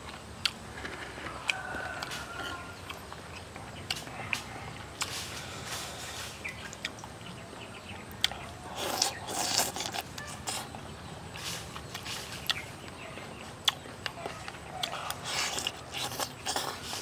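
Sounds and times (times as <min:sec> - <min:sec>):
open-mouthed chewing: 0:00.0 - 0:17.0.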